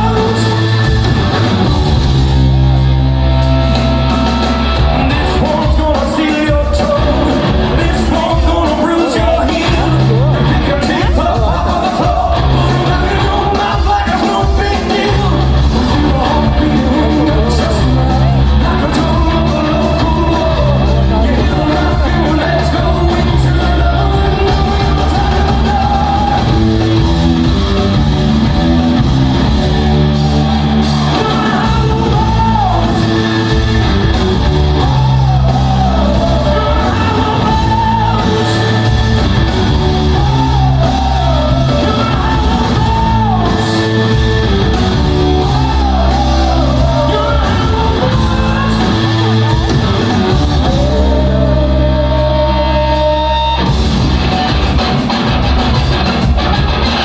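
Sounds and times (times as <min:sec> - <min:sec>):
person singing: 0:00.0 - 0:01.6, 0:03.6 - 0:27.2, 0:29.8 - 0:53.8
rock band playing live: 0:00.0 - 0:57.0.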